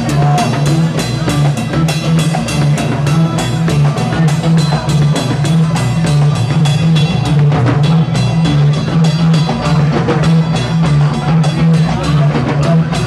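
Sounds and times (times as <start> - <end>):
drum kit fast beat: 0.0 - 13.0
heavy bass line: 0.0 - 13.0
live band playing: 0.0 - 13.0.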